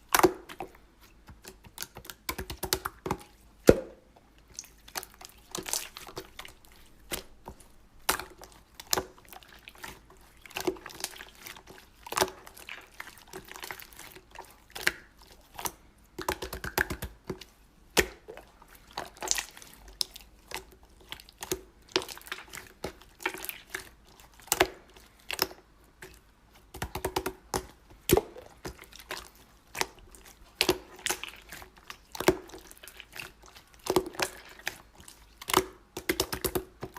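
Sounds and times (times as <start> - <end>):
slime squishing with sticky clicks: 0.0 - 36.9.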